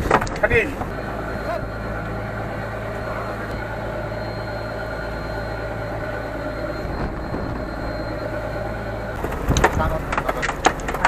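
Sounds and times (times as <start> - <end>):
boat engine drone: 0.0 - 11.0.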